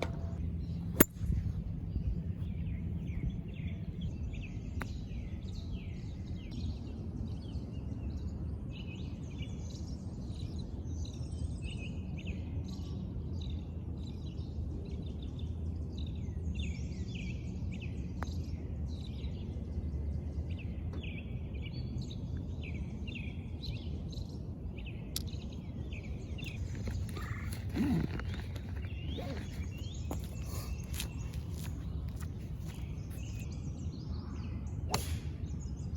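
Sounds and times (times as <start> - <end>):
low outdoor rumble: 0.0 - 11.4, 12.0 - 35.9
small birds chirping and singing: 0.0 - 35.9.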